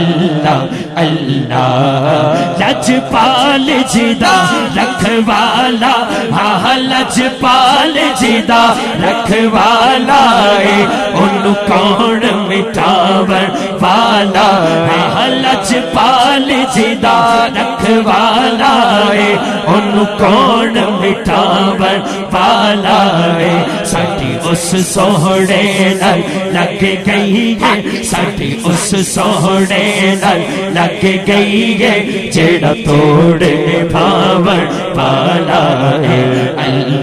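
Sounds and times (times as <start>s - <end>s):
crowd of men chanting: 0.0s - 37.0s
lead voice chanting: 0.0s - 37.0s.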